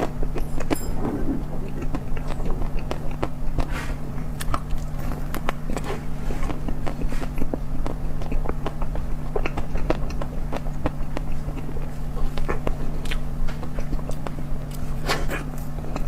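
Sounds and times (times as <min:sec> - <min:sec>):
chewing and crunching: 0:00.0 - 0:16.0
low hum: 0:00.0 - 0:16.0.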